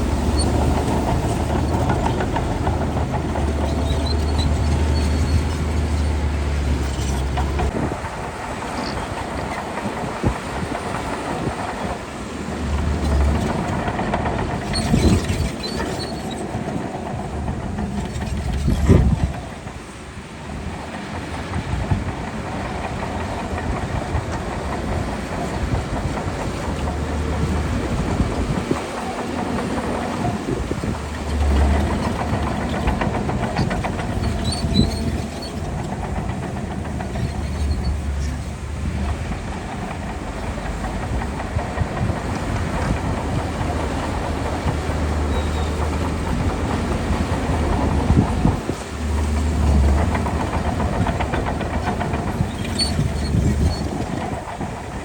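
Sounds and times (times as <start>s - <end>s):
diesel engine under load: 0.0s - 55.0s
steel tracks clanking: 0.0s - 55.0s.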